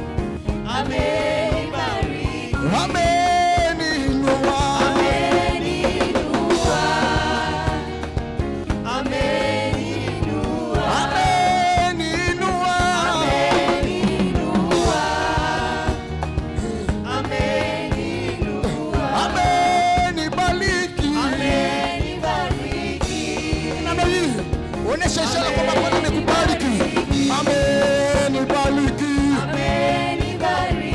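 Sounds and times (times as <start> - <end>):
group singing gospel music: 0.0 - 30.9.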